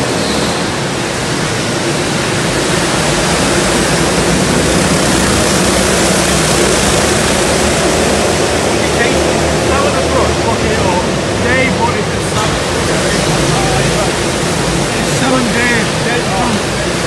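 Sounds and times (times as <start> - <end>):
go-kart engines racing: 0.0 - 17.0.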